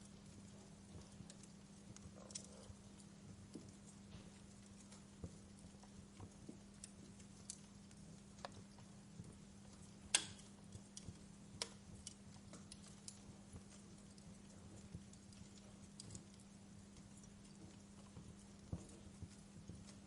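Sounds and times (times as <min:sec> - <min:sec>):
faint steady hum: 0:00.0 - 0:20.0
wood fire crackling: 0:00.0 - 0:20.0.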